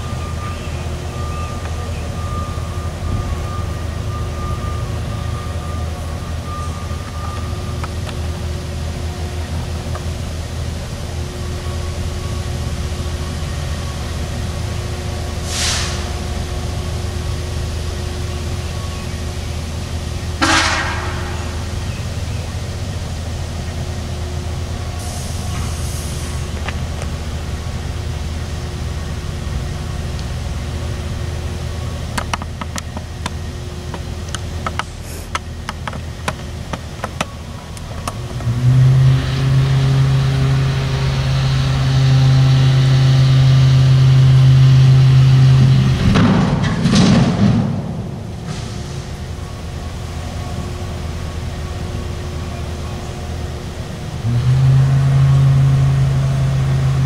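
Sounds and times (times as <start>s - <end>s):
engine hum: 0.0s - 57.0s
loud engine drone: 0.0s - 57.0s.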